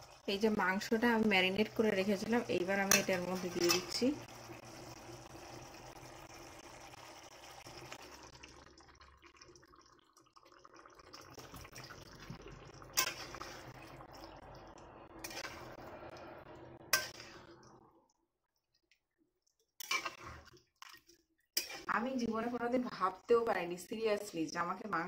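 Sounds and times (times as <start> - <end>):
gravy bubbling: 0.0 - 23.9.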